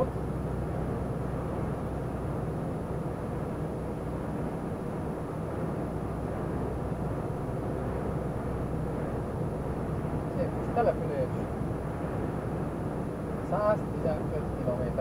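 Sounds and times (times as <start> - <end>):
lorry engine and road noise: 0.0 - 15.0.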